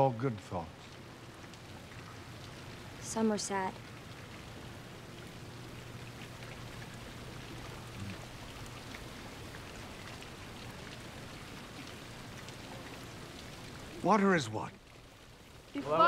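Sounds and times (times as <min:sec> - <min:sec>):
low background hiss: 0:00.0 - 0:16.0
faint crackles: 0:00.4 - 0:15.9.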